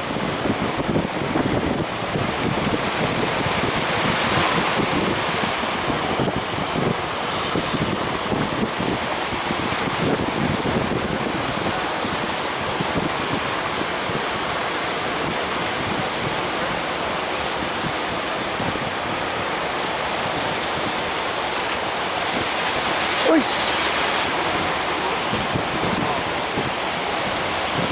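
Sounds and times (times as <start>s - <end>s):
ocean waves breaking: 0.0s - 27.9s
wind on microphone: 0.0s - 27.9s.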